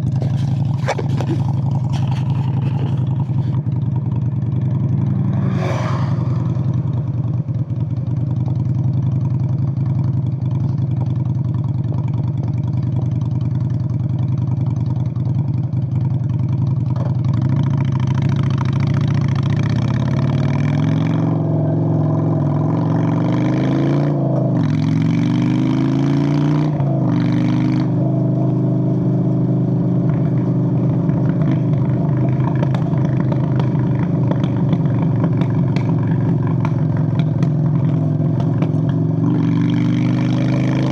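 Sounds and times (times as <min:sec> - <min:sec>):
motorcycle engine revving: 0:00.0 - 0:11.3, 0:16.0 - 0:40.9.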